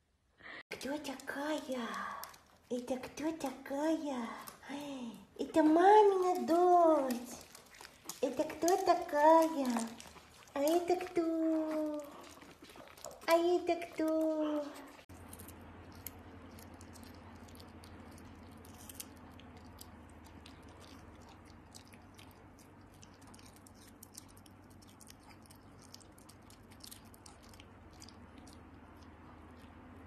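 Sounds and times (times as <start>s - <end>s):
low steady hum: 0.0s - 30.0s
dog chewing cucumber: 5.4s - 30.0s.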